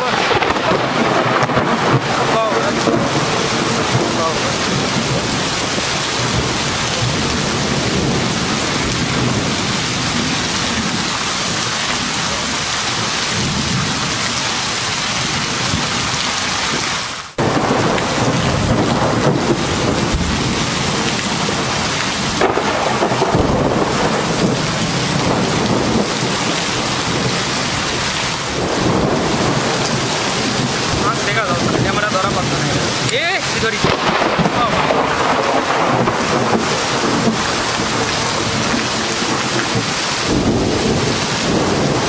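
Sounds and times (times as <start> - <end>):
heavy rain pouring: 0.0 - 42.0
thunder rumbling: 0.0 - 42.0.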